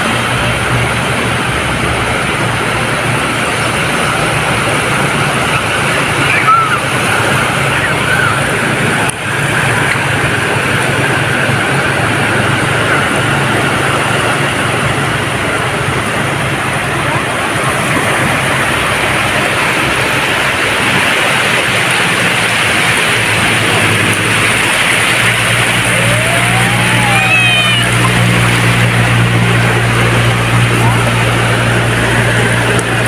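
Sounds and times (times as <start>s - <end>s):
low engine hum: 0.0s - 33.0s
sea surf washing onto beach: 0.0s - 33.0s.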